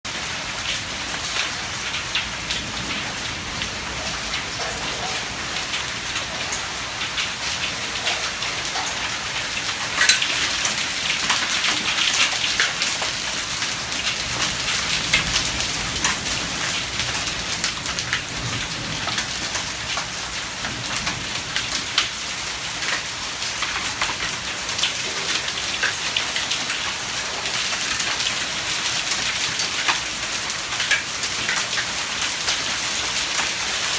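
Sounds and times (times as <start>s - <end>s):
heavy rain and hail: 0.1s - 33.9s.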